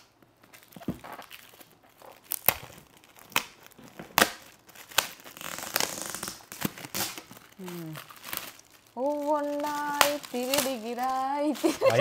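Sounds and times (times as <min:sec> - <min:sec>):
foil wrap crinkling: 0:00.0 - 0:12.0.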